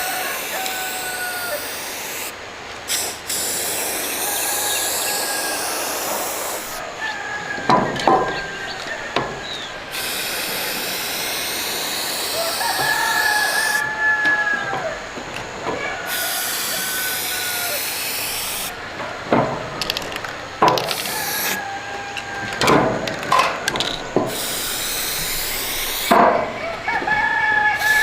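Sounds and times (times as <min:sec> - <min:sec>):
hissing metalworking tool: 0:00.0 - 0:06.8, 0:08.0 - 0:13.9, 0:16.0 - 0:26.3, 0:27.8 - 0:28.0.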